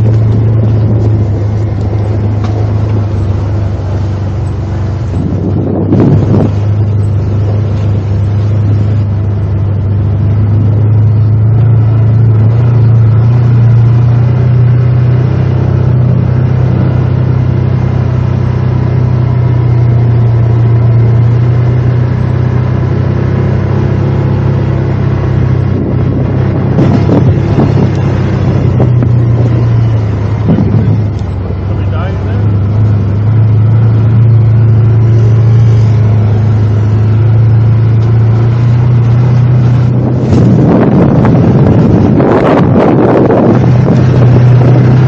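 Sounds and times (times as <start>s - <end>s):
atv engine droning: 0.0s - 45.0s.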